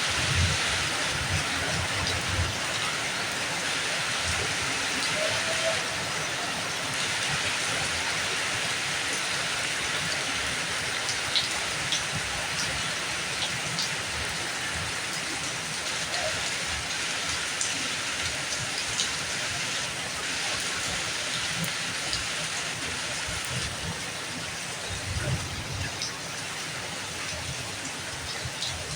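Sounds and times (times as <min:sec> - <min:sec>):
steady rain hiss: 0:00.0 - 0:28.9
raindrops tapping on surfaces: 0:00.1 - 0:28.9.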